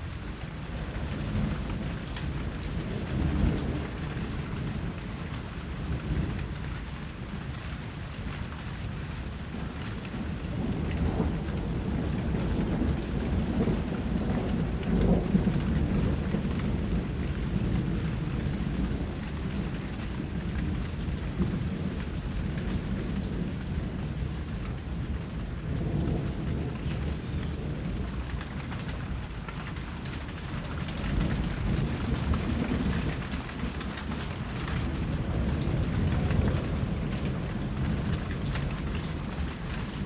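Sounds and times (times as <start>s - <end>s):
low rolling thunder: 0.0s - 40.0s
steady rain: 0.0s - 40.0s.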